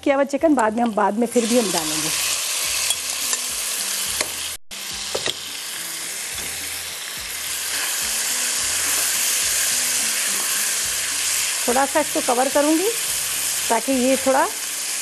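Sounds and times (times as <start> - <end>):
chicken sizzling in a wok: 1.0 - 15.0.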